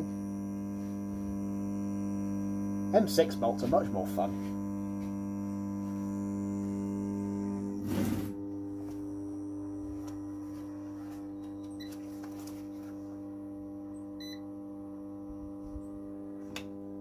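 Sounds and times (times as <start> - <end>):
transformer humming: 0.0 - 17.0.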